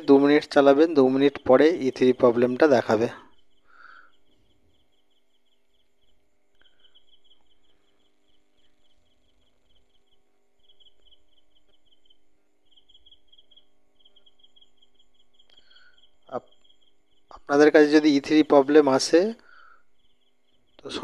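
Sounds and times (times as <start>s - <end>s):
cricket chirping: 0.0s - 21.0s
faint steady hum: 0.0s - 21.0s.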